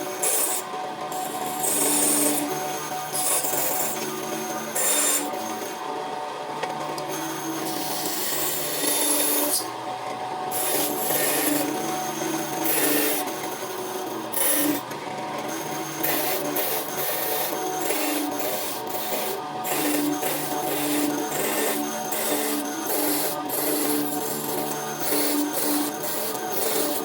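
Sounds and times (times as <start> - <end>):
tool rasping against wood: 0.0 - 5.8, 7.1 - 9.7, 10.5 - 14.8, 15.4 - 27.0
woodworking machine humming: 0.0 - 27.0.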